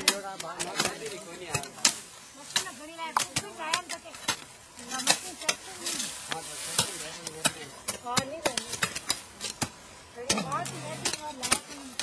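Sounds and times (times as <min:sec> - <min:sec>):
plants rustling: 0:00.2 - 0:12.0.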